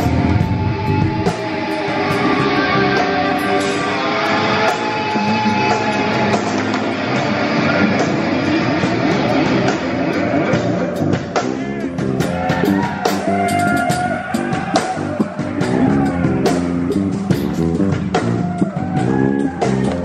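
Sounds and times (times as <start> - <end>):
bass guitar: 0.0 - 20.0
distorted electric guitars: 0.0 - 20.0
drum and cymbal hits: 0.0 - 20.0.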